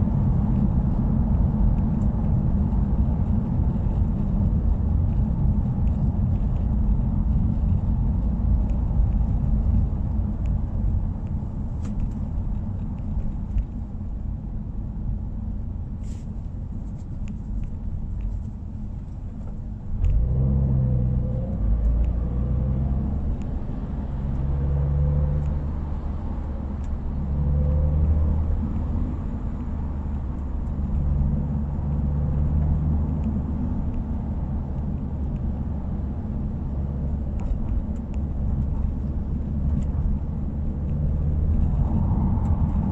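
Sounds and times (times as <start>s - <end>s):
car exhaust rumble: 0.0s - 42.9s
road noise: 0.0s - 42.9s.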